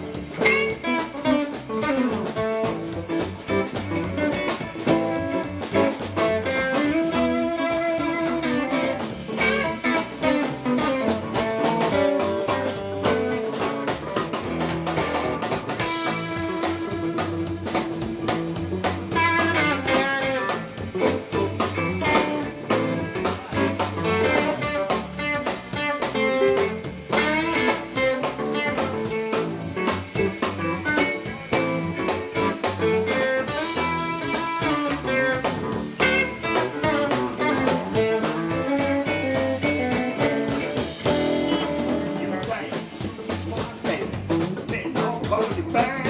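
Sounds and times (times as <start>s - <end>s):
electric guitar lines: 0.0s - 43.6s
steady drum beat: 0.0s - 46.0s.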